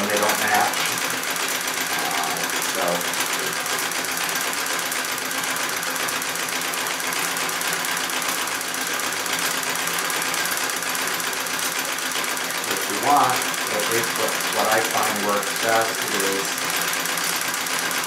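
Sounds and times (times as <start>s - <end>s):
treadle sewing machine stitching: 0.0s - 18.0s.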